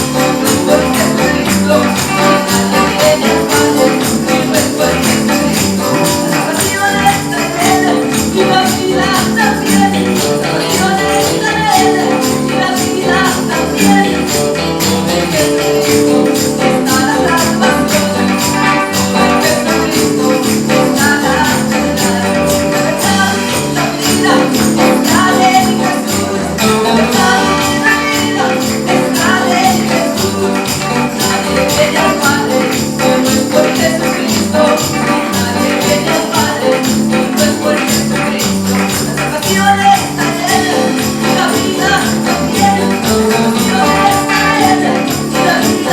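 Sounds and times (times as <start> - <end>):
gospel band playing: 0.0 - 45.9
tambourine shaking: 0.0 - 45.9.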